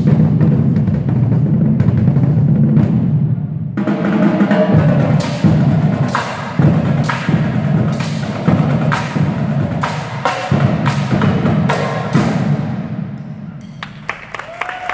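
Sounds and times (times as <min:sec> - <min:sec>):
percussion ensemble music: 0:00.0 - 0:14.9.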